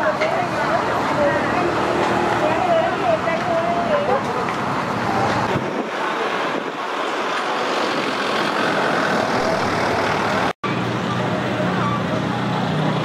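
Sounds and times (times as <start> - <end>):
street traffic passing: 0.0 - 13.0.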